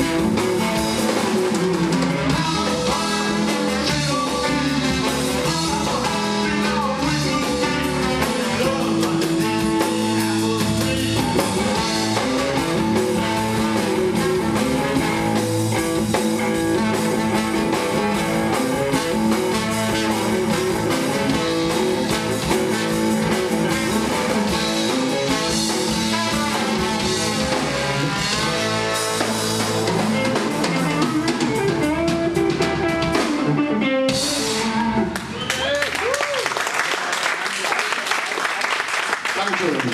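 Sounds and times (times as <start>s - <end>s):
drum kit: 0.0s - 36.4s
guitar: 0.0s - 36.6s.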